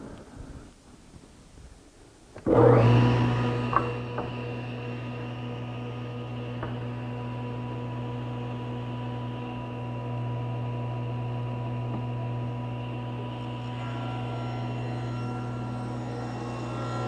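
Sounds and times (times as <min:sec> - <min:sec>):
table saw running: 0:02.5 - 0:17.0.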